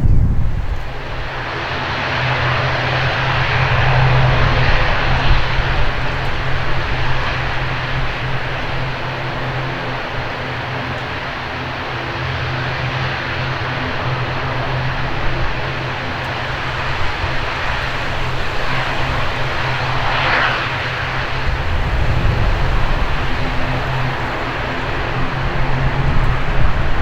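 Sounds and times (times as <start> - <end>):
propeller drone: 0.0 - 27.0
wind rumbling on microphone: 0.0 - 27.0.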